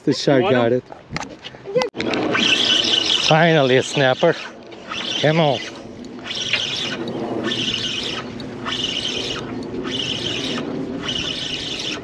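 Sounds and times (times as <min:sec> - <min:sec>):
fishing reel cranking: 0:02.0 - 0:12.0.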